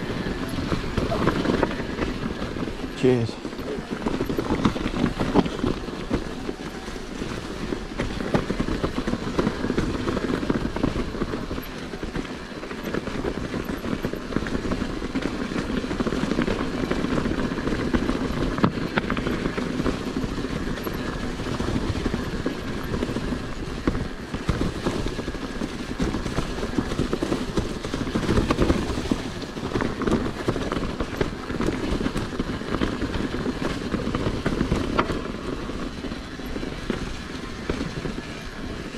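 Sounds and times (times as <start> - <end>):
bike clattering and rattling: 0.0 - 38.9
bike tyres rumbling on trail: 0.0 - 38.9.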